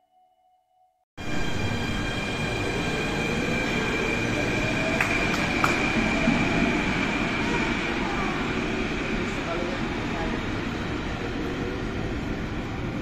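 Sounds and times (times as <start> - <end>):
train wheels rumbling on rails: 1.2 - 13.0.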